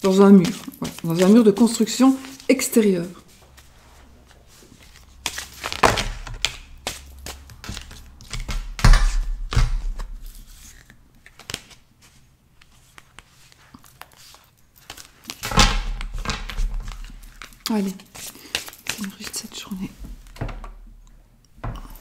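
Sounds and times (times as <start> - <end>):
papery rustling: 0.0 - 8.5, 10.2 - 20.4.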